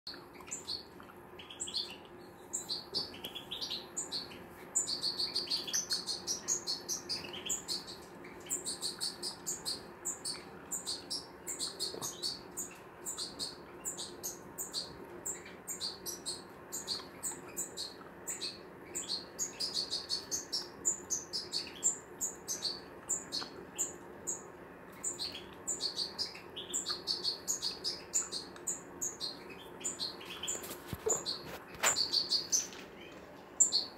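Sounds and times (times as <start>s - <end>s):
goldfinches twittering: 0.3s - 33.9s.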